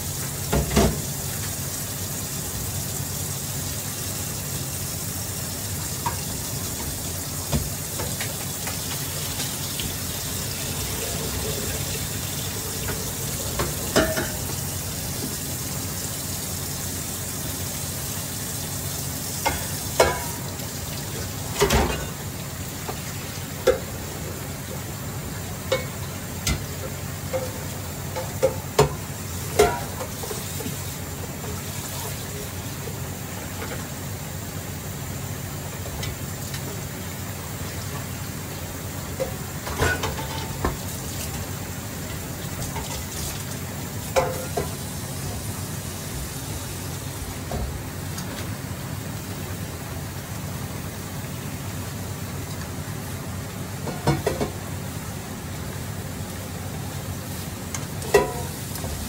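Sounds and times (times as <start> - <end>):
meat sizzling in a pan: 0.0 - 59.0.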